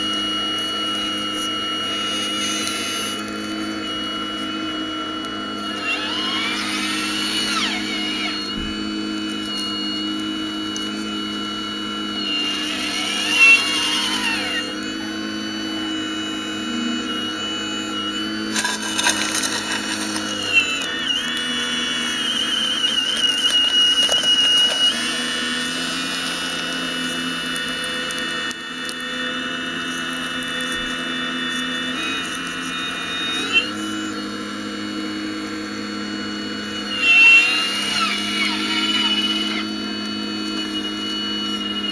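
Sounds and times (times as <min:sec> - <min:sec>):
model excavator motors whining: 0:00.0 - 0:41.9.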